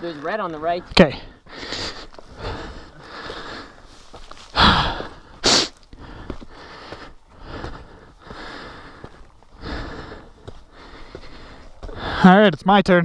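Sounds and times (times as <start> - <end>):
person breathing hard and puffing: 1.2 - 12.2.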